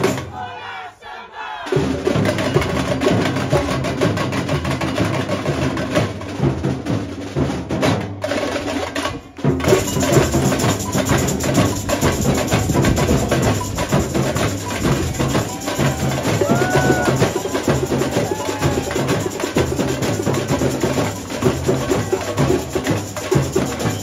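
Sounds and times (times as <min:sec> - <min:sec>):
samba drums and hand percussion: 0:00.0 - 0:24.0.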